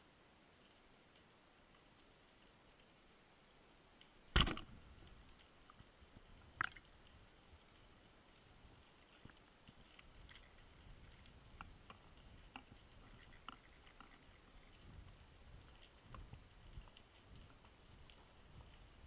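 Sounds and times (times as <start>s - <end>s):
underwater clicks and ticks: 0.5s - 19.0s.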